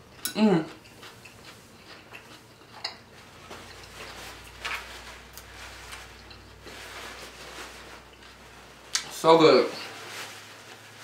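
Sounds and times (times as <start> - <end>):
chewing salad crunches: 0.0 - 9.2.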